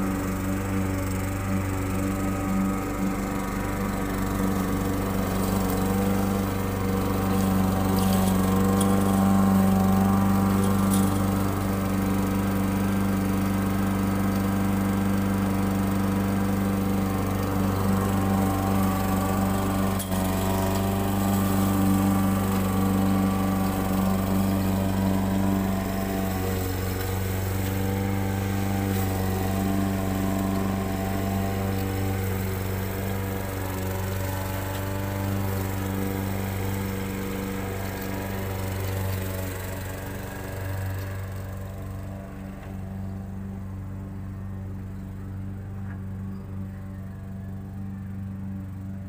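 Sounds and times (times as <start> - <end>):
push mower cutting grass: 0.0 - 49.0.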